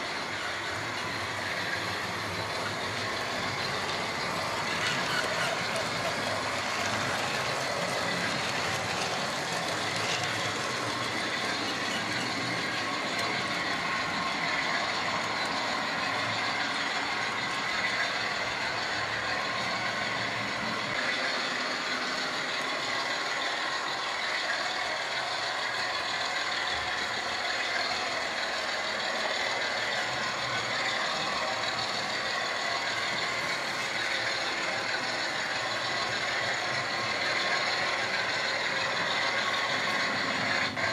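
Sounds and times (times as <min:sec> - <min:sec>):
model trains whirring and rattling: 0:00.0 - 0:40.9.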